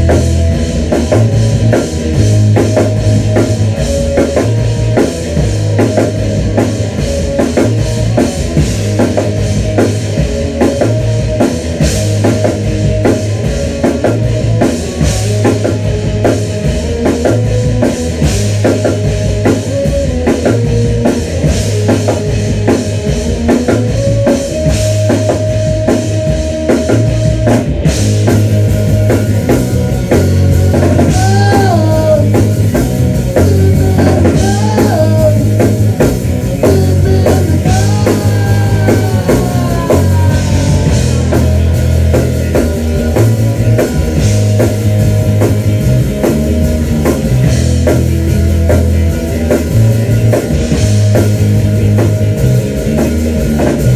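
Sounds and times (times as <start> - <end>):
bass line: 0.0 - 53.9
electric guitar: 0.0 - 53.9
pounding drum kit: 0.0 - 53.9.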